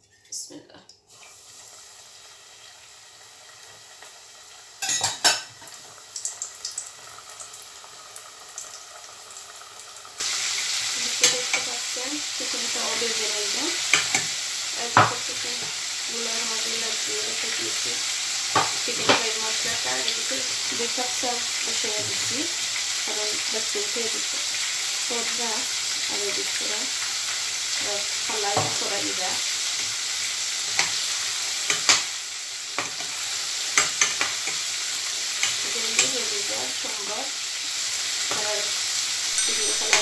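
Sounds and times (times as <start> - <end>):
chicken frying in oil: 1.1 - 40.0.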